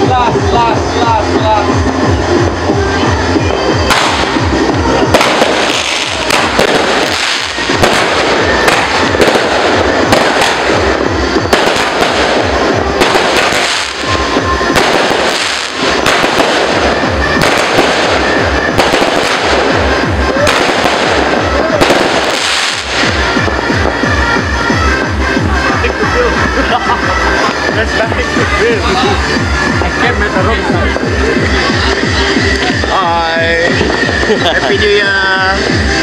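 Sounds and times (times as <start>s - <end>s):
fireworks crackling and banging: 0.0s - 36.0s
music playing: 0.0s - 36.0s.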